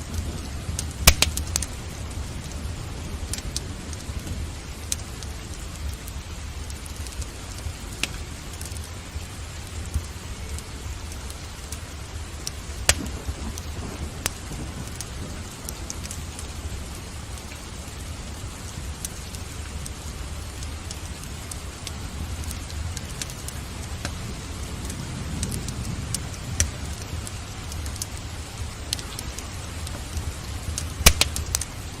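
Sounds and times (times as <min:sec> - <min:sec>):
sharp pops from fire: 0:00.0 - 0:02.6, 0:03.2 - 0:08.9, 0:09.6 - 0:16.5, 0:18.7 - 0:24.2, 0:24.8 - 0:32.0
low rumble: 0:00.0 - 0:32.0
steady rain: 0:00.0 - 0:32.0
wood fire crackling: 0:00.0 - 0:32.0.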